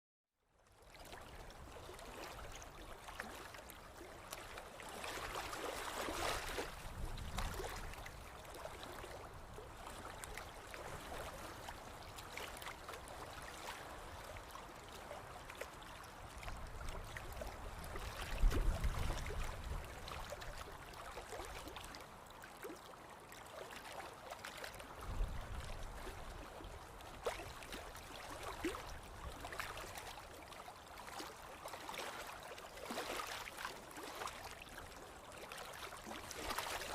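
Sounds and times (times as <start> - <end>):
soft rush of water-like noise: 0.5 - 36.9.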